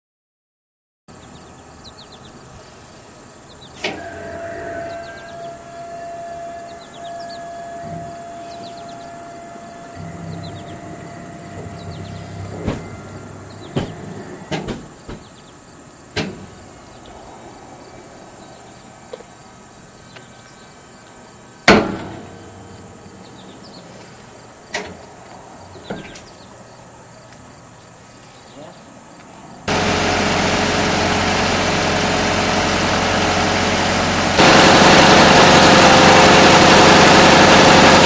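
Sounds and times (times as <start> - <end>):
barrier drive whine: 1.1 - 28.3, 28.9 - 38.0.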